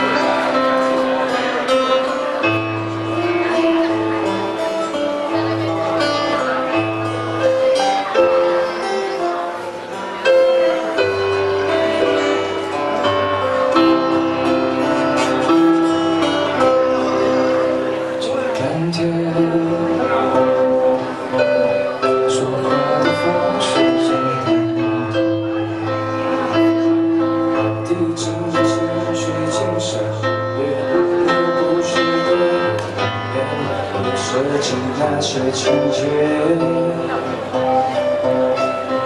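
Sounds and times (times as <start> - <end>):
guitar: 0.0 - 39.0
keyboard: 0.0 - 39.0
man singing amplified: 0.0 - 39.0.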